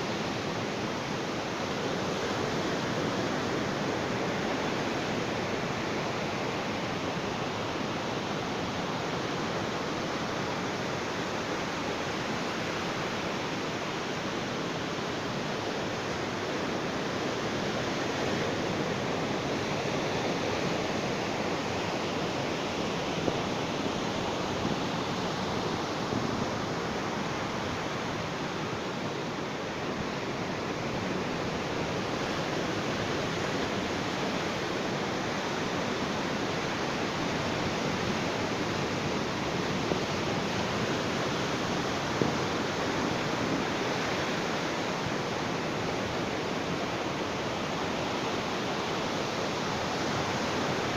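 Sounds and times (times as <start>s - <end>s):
ocean waves washing on beach: 0.0s - 50.9s.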